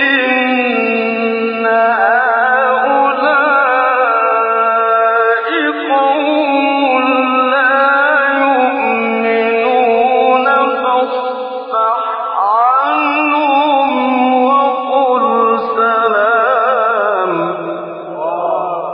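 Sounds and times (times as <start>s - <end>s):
man reciting in melodic chant: 0.0s - 18.9s.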